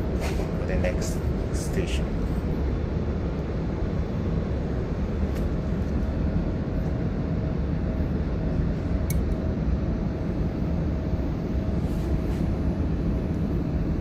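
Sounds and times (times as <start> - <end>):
faint steady hum: 0.0 - 14.0
train rumble inside carriage: 0.0 - 14.0.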